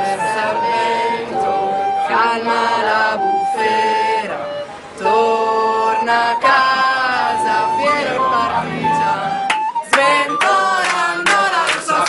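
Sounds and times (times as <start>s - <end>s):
slow music of long held notes: 0.0s - 11.2s.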